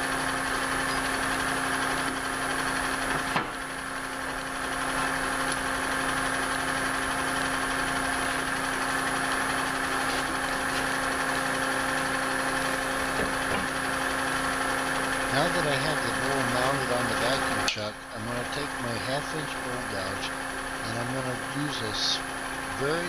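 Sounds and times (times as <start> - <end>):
lathe and vacuum pump hum: 0.0 - 23.0.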